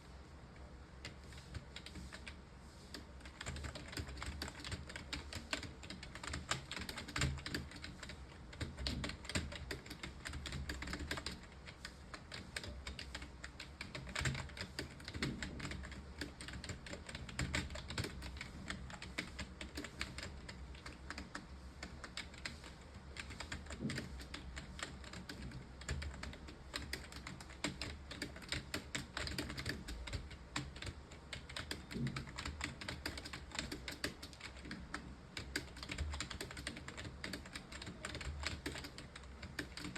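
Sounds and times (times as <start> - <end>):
fast keyboard typing: 1.0 - 39.9.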